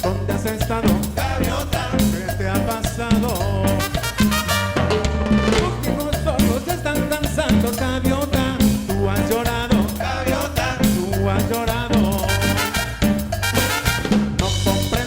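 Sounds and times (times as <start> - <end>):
band playing latin dance music: 0.0 - 15.0.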